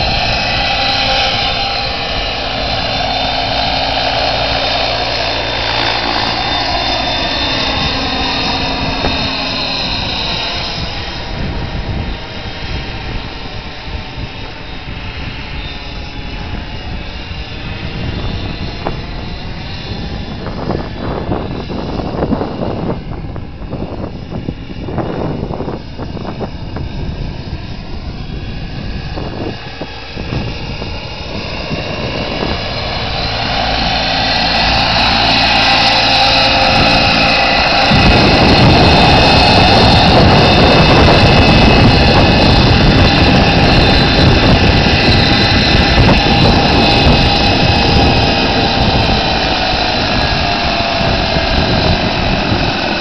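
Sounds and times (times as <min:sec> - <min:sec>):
helicopter rotor noise: 0:00.0 - 0:53.0
model helicopter turbine whining: 0:00.0 - 0:53.0.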